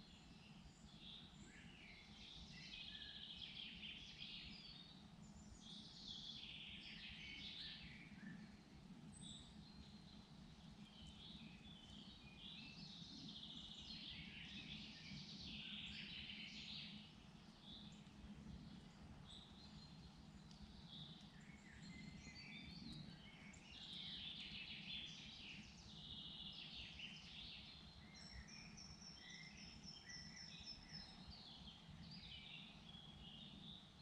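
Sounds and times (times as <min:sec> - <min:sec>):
faint songbirds singing: 0:00.0 - 0:34.0.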